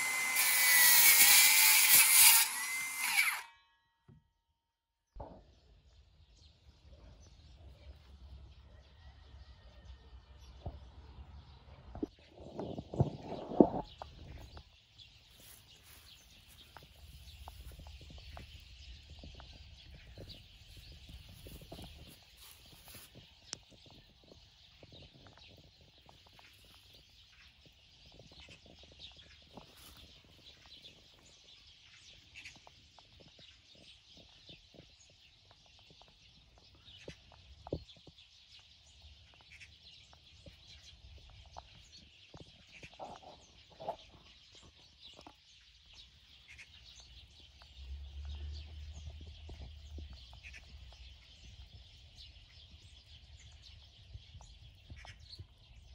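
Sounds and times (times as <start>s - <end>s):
small birds chirping: 5.2s - 55.9s.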